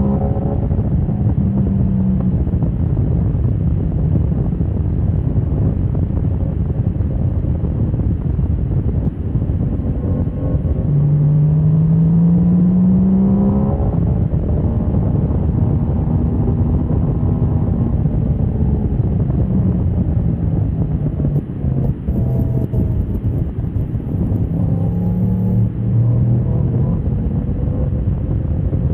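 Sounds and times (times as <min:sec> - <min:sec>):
motorcycle engine accelerating: 0:00.0 - 0:06.4, 0:08.8 - 0:28.9.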